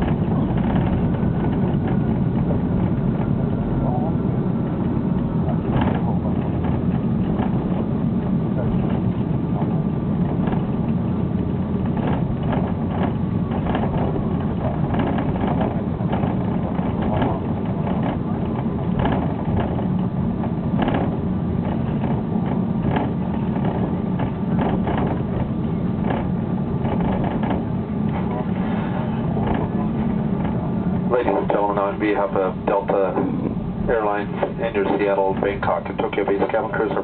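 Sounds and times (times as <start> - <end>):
aircraft engine rumble: 0.0 - 37.0.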